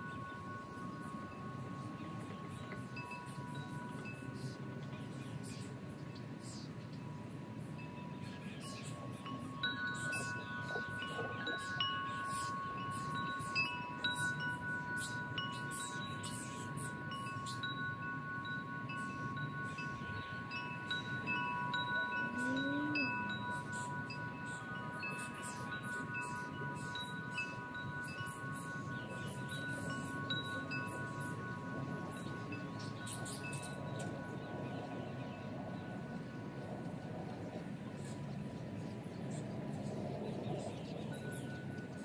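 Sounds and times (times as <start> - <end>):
wind chime ringing: 0.0 - 37.8, 40.5 - 42.0.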